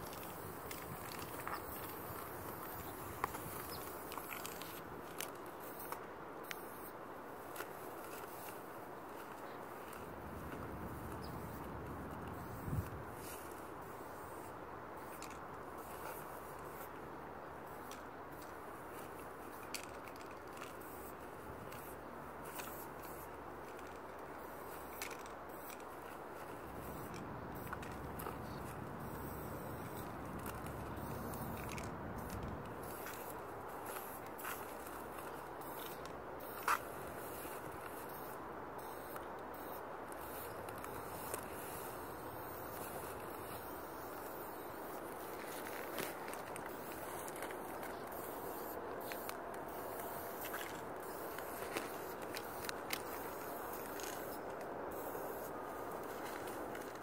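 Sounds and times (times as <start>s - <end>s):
spray paint can hissing: 0.0s - 6.9s, 7.5s - 16.9s, 17.7s - 57.0s
low background rush: 0.0s - 57.0s.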